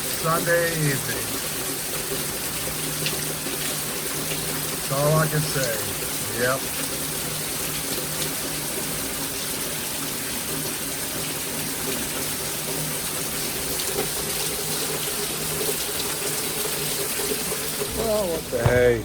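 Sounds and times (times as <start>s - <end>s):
rainwater pouring and rushing: 0.0s - 19.0s.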